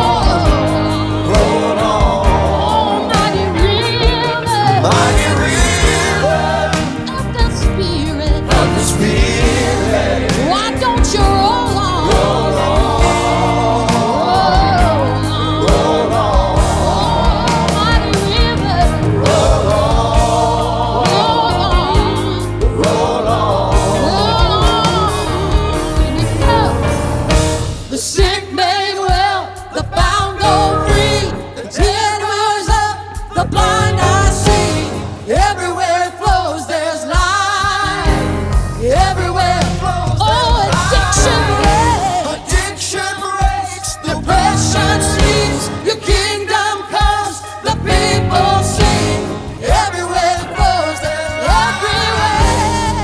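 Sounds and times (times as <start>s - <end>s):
band playing: 0.0s - 53.0s
voices singing gospel: 0.0s - 53.0s.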